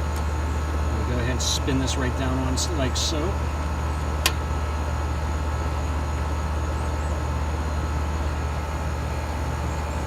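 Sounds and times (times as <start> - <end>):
air conditioner unit humming: 0.0 - 10.0.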